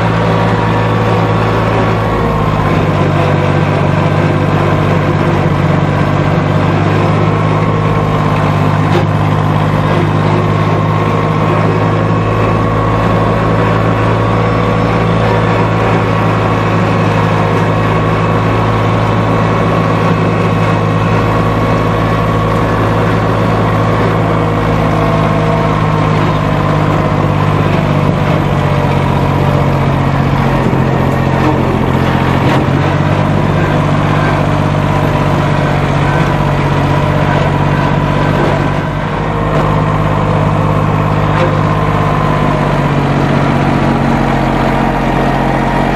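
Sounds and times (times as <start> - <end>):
lawn mower engine running: 0.0 - 45.9.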